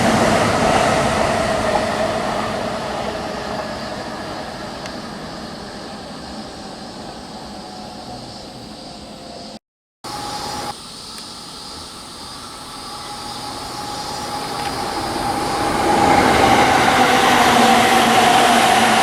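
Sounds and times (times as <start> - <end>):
electric train approaching: 0.0 - 19.0.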